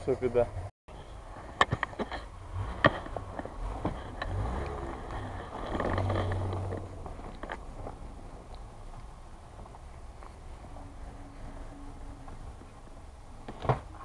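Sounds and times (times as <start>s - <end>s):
suv engine droning: 0.0s - 14.0s.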